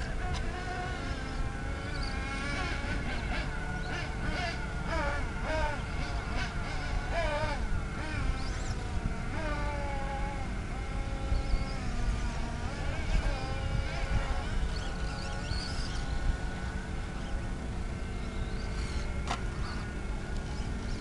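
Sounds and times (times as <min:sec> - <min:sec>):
rc buggy motors buzzing: 0:00.0 - 0:21.0.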